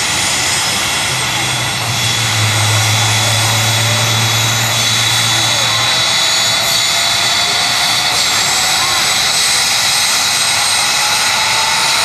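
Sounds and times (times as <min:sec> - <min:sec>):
helicopter turbine whine: 0:00.0 - 0:12.0.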